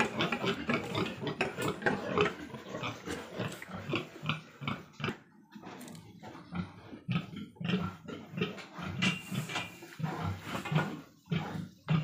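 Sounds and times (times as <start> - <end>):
pigs grunting: 0.0 - 12.0.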